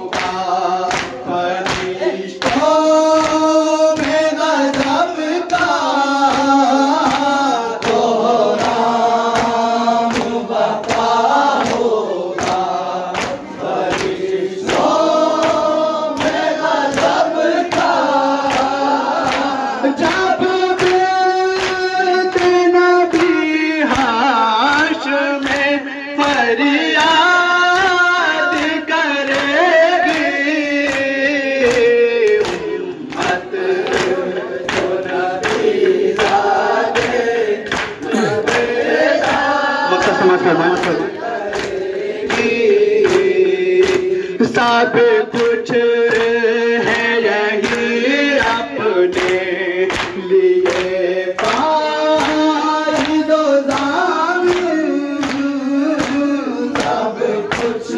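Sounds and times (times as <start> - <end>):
men singing a lament in unison: 0.0 - 57.9.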